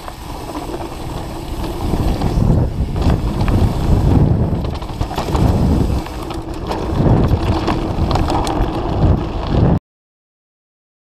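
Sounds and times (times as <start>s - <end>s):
bike rattling and clicking: 0.0s - 9.8s
tyres rumbling on dirt and rocks: 0.0s - 9.8s
wind buffeting microphone: 0.0s - 9.8s.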